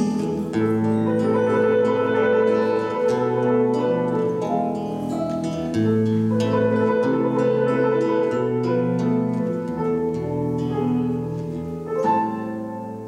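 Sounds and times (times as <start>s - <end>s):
plucked string instrument: 0.0s - 13.0s.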